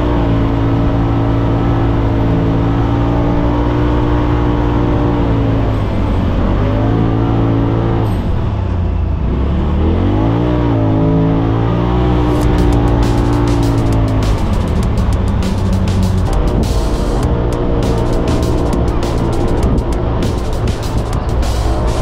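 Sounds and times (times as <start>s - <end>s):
off-road vehicle engine under load: 0.0s - 22.0s.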